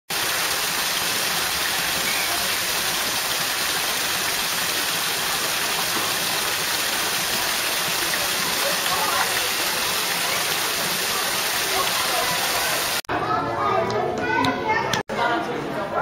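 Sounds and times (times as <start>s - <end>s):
running water rushing: 0.1s - 13.1s.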